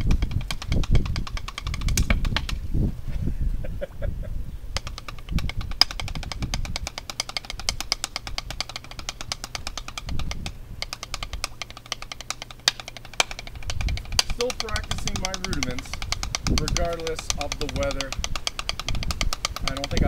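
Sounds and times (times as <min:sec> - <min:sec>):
drumsticks on practice pad: 0:00.0 - 0:02.7, 0:04.7 - 0:20.0.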